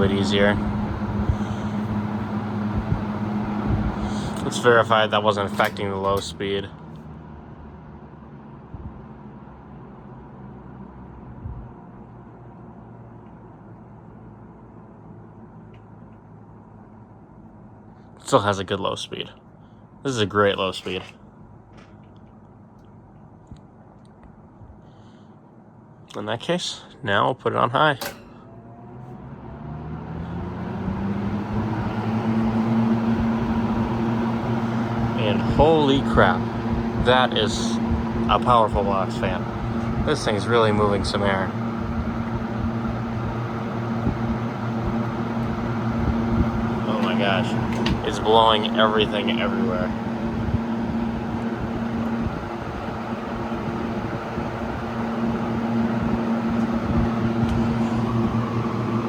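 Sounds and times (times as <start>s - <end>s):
low motor hum: 0.0s - 17.8s, 28.0s - 59.0s
fan air rushing: 0.0s - 27.0s, 27.7s - 59.0s.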